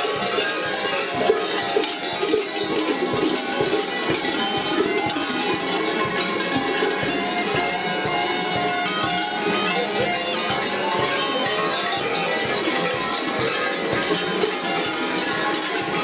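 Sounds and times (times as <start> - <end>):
large bells clanging: 0.0 - 16.0.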